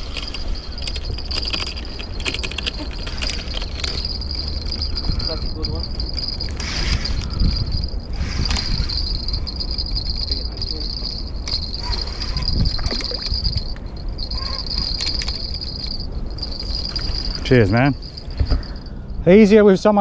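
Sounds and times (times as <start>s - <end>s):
fishing reel whirring: 0.0s - 18.9s
wind rumble on microphone: 0.0s - 19.3s.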